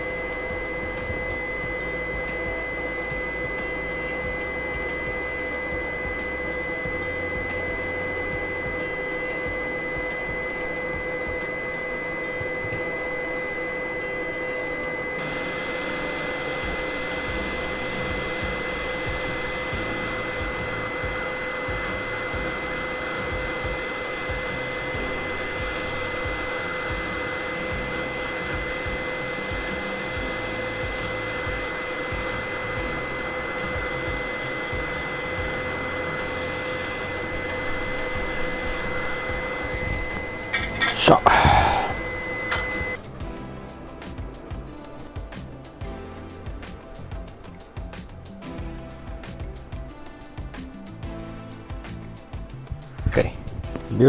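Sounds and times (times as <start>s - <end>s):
high-pitched whine: 0.0s - 54.0s
hot air gun hissing: 0.0s - 54.0s.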